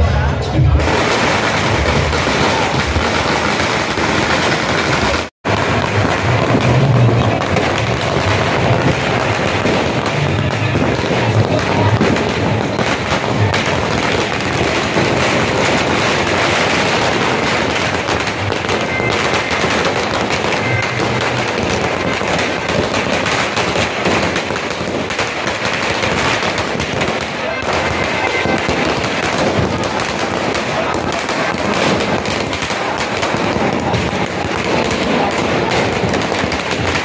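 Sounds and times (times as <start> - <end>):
firecrackers bursting: 0.6 - 37.0.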